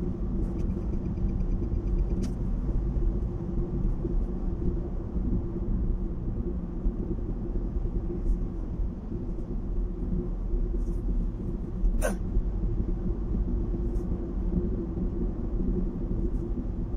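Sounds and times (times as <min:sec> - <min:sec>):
car tyre and engine rumble: 0:00.0 - 0:16.9.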